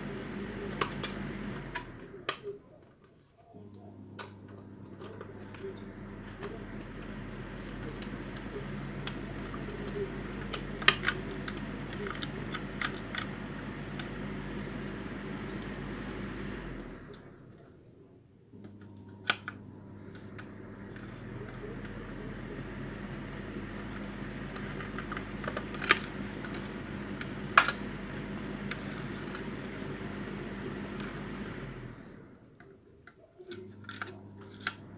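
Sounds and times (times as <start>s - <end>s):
steady low hum: 0.0s - 2.8s, 3.5s - 34.9s.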